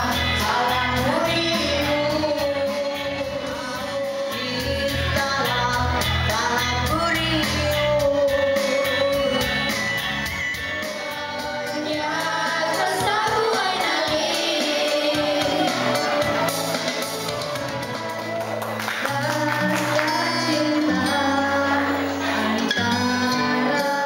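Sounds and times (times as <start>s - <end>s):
person singing into microphone: 0.0s - 9.9s, 10.9s - 17.3s, 19.0s - 24.0s
instrumental backing track: 0.0s - 24.0s.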